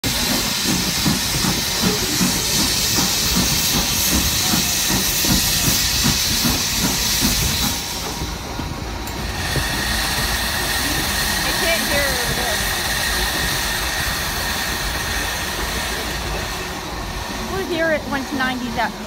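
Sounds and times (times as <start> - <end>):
pulsing train rumble: 0.0 - 19.0
train hiss on board: 0.0 - 19.0.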